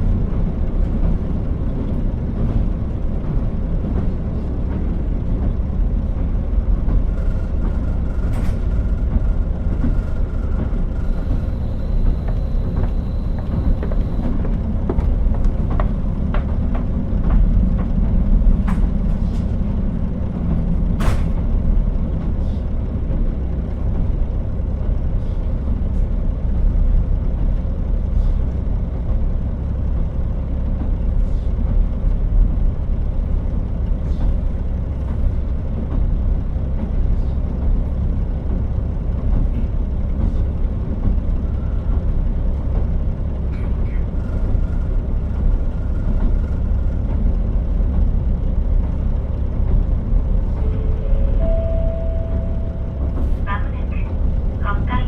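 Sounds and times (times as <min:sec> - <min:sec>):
diesel railcar rumbling: 0:00.0 - 0:55.0.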